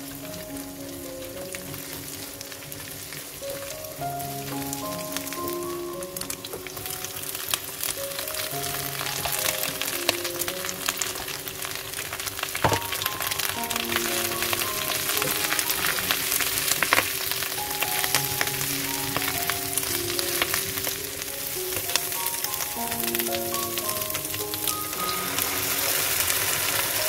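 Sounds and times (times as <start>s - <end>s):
food sizzling in a frying pan: 0.0s - 27.0s
soft background music: 0.0s - 27.0s.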